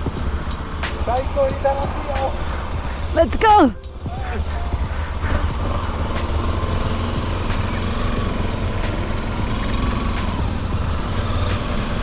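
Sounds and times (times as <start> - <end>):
motorcycle engines running: 0.0 - 3.2, 4.0 - 12.0.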